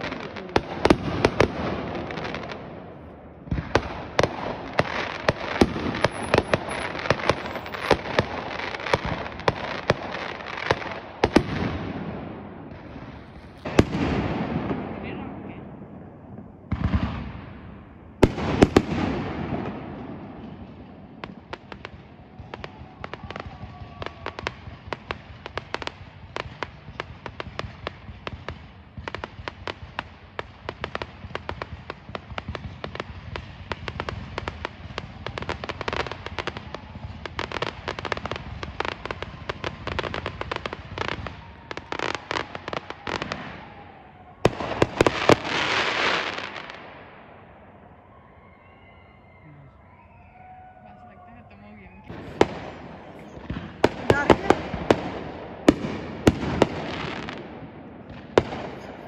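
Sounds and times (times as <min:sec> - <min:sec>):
fireworks bangs and crackles: 0:00.0 - 0:49.2, 0:49.9 - 0:59.0.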